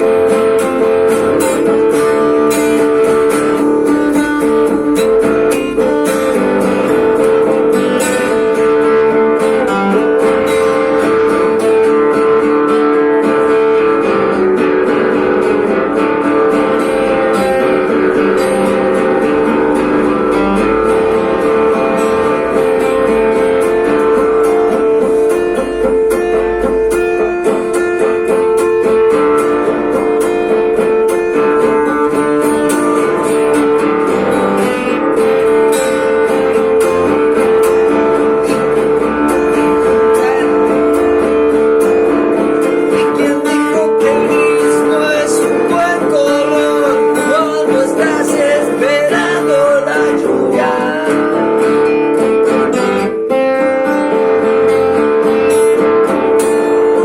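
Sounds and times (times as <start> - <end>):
plucked and strummed guitar: 0.0 - 57.0.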